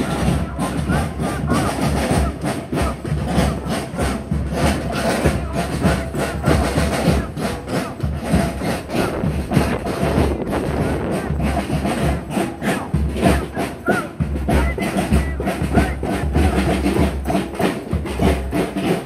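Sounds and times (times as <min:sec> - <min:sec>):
bass drum: 0:00.0 - 0:13.6, 0:14.2 - 0:19.0
snare drums: 0:00.0 - 0:19.0.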